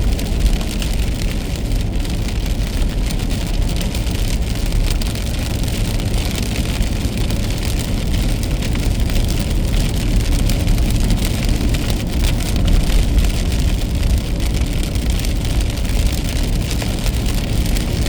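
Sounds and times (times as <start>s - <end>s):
rain: 0.0s - 18.0s
raindrops ticking on car: 0.0s - 18.0s
road and tyre rumble: 0.0s - 18.0s.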